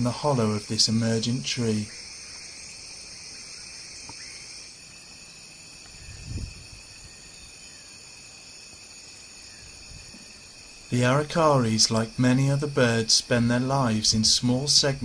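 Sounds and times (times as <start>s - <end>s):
insects buzzing and trilling: 0.0s - 15.0s.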